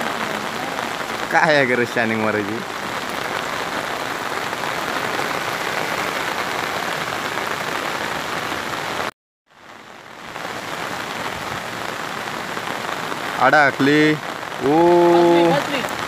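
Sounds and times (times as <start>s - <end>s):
rain pouring down: 0.0s - 16.0s.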